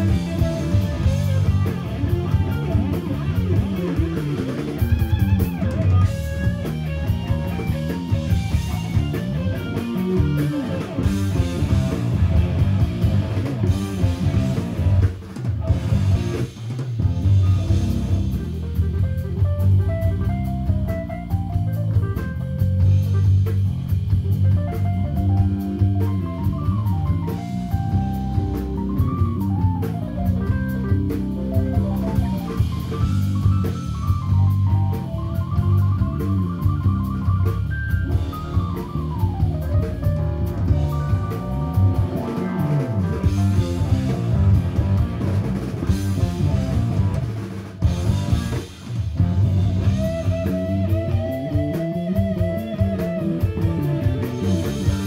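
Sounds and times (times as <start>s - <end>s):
electric guitar lead lines: 0.0s - 55.0s
live rock band playing: 0.0s - 55.0s.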